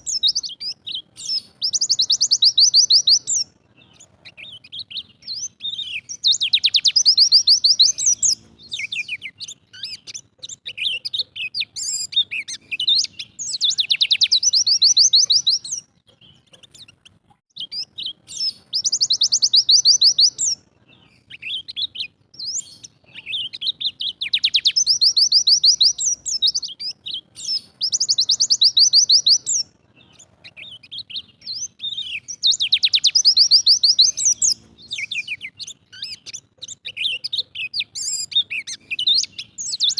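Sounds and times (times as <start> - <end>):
bird trilled song bursts: 0.0 - 39.9
short high bird chirps: 0.0 - 39.9.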